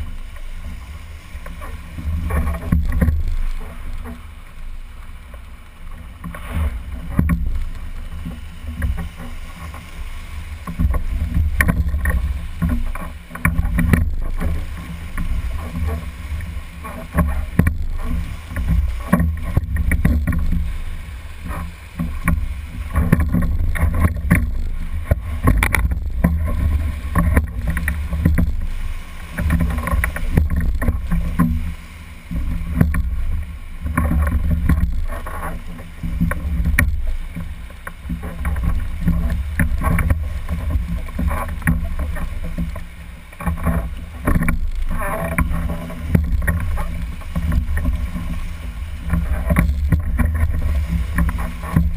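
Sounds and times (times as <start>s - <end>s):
knocks and splashes of oars: 0.0s - 51.9s.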